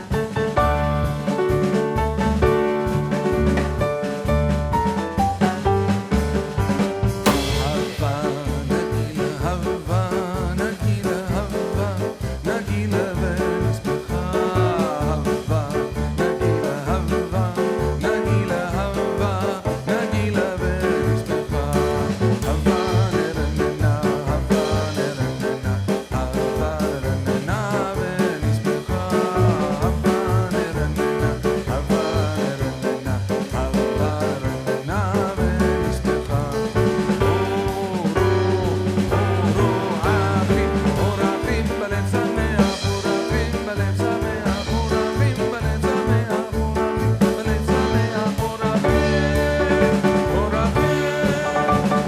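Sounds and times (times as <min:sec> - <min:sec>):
bouncy swing music: 0:00.0 - 0:52.0.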